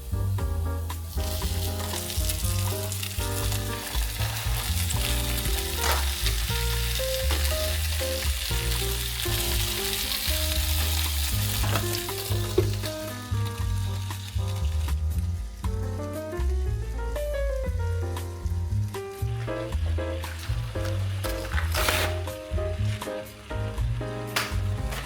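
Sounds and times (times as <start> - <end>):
background music with held notes: 0.0 - 25.0
food sizzling in a pan: 0.0 - 25.0
stirring in a pan: 0.8 - 16.1, 17.8 - 25.0.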